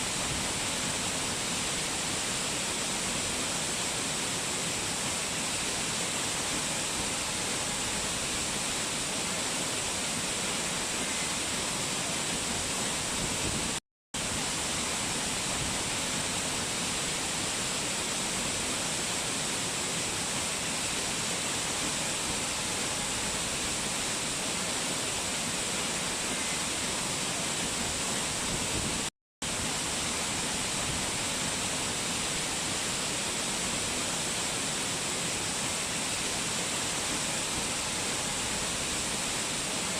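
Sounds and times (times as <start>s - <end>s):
mountain water rushing: 0.0s - 39.9s.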